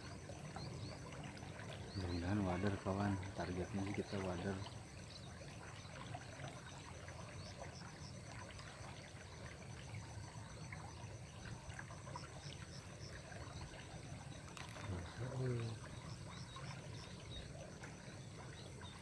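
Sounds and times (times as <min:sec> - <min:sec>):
trickle of running water: 0:00.0 - 0:19.0.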